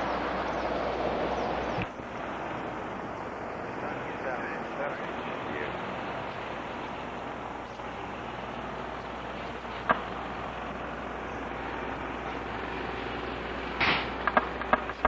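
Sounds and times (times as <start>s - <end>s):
fire truck engine passing: 0.0s - 15.0s.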